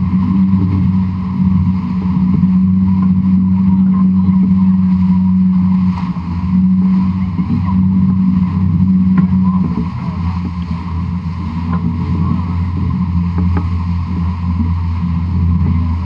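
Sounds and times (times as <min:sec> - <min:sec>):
rushing water: 0:00.0 - 0:16.0
sailing boat humming: 0:00.0 - 0:16.0.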